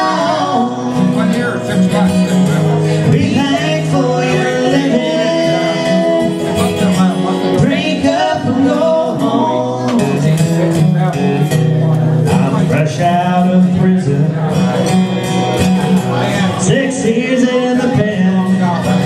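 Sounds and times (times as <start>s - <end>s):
country song on acoustic guitar: 0.0s - 19.0s.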